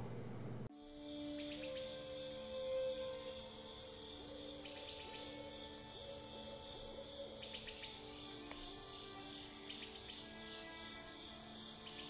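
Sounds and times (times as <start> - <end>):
crickets chirping: 0.7 - 12.0
soft music of long notes: 0.7 - 12.0.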